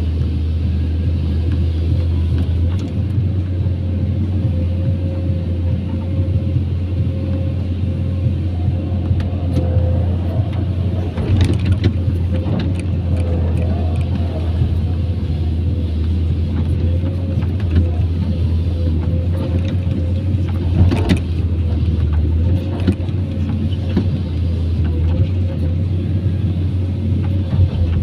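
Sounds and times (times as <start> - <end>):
excavator engine humming: 0.0 - 28.0.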